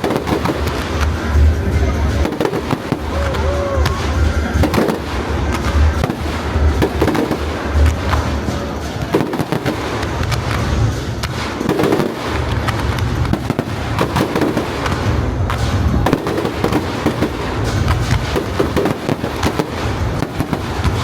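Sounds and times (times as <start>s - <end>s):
deep rolling booms: 0.0s - 21.0s
fireworks bangs and crackles: 0.0s - 21.0s.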